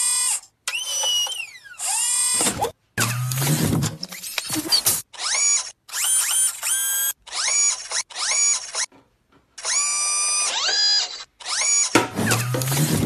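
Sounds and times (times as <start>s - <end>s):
robot servo whirrs: 0.0s - 8.9s, 9.6s - 13.0s.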